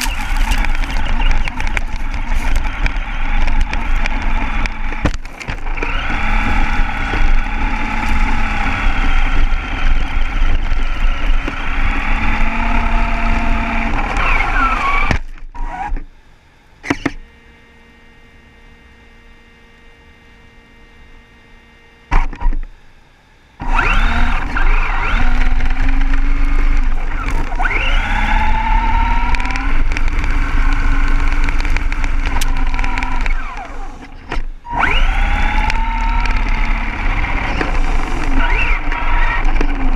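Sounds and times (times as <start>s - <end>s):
rc buggy motor whining: 0.0s - 16.0s, 23.6s - 39.9s
faint steady hum: 0.0s - 39.9s.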